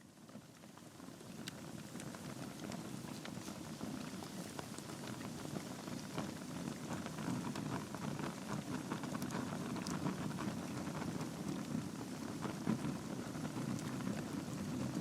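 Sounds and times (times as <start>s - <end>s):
logs burning with crackles: 0.1s - 15.0s.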